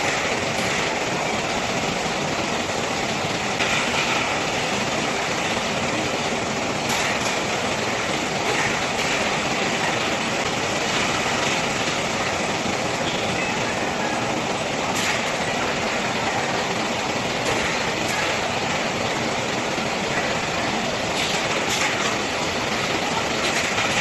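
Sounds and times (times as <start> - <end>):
palletizer robot working: 0.0 - 24.0
roller conveyors running: 0.0 - 24.0.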